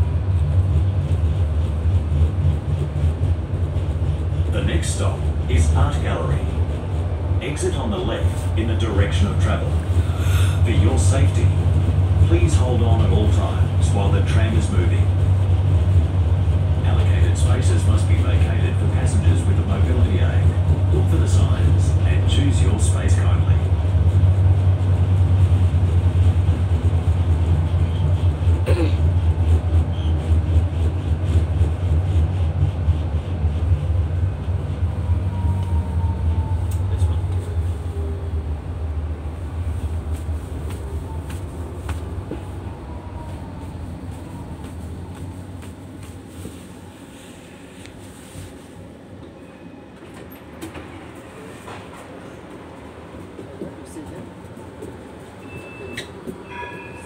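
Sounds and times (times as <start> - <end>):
tram wheels rumbling: 0.0 - 57.0.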